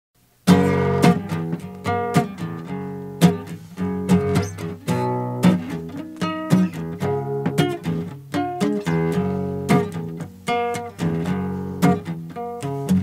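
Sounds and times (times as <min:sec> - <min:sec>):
guitar strumming chords: 0:00.4 - 0:13.0.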